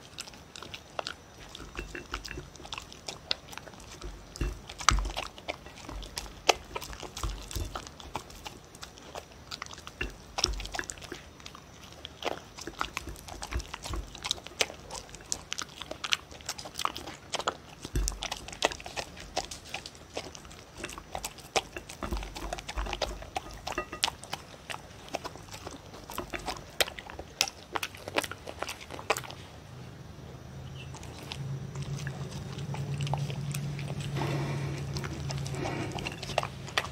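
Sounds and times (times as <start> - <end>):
dog crunching kibble: 0.0 - 29.8, 30.6 - 36.9.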